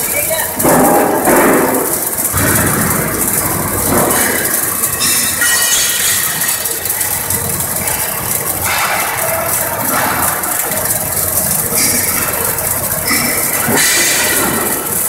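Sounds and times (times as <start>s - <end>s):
robot arc welding: 0.0s - 15.0s.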